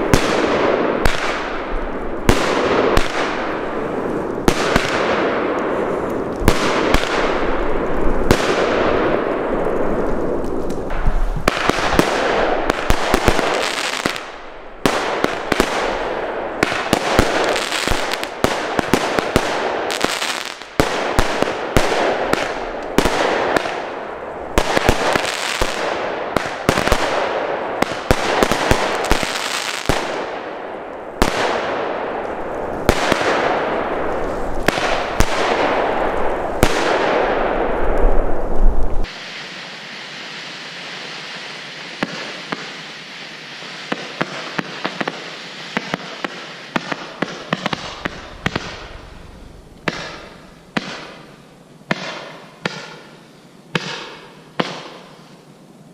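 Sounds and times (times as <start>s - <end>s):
fireworks bangs: 0.0s - 55.3s.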